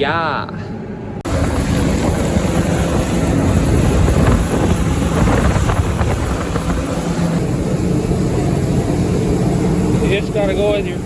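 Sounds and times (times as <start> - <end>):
wind rumbling on microphone: 1.2 - 11.0
heavy farm machinery engine: 1.3 - 11.0.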